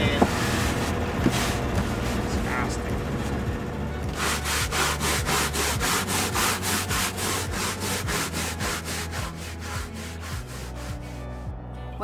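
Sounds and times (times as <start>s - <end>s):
scrubbing brush rasping on deck: 0.0s - 2.6s, 4.1s - 11.3s.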